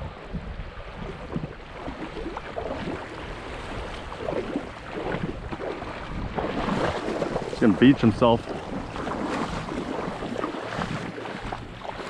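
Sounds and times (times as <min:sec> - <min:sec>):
seawater lapping and splashing: 0:00.0 - 0:12.0
wind rumble on microphone: 0:00.0 - 0:12.0.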